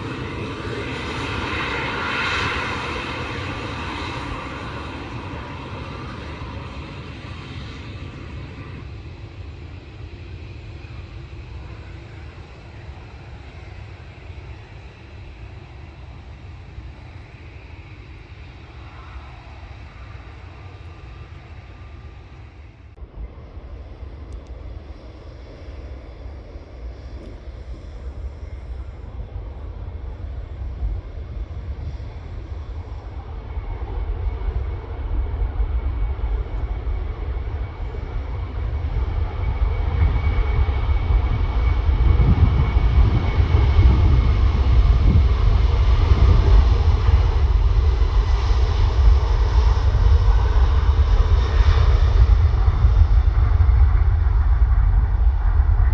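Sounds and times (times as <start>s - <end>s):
jet engines roaring at take-off: 0.0s - 55.9s.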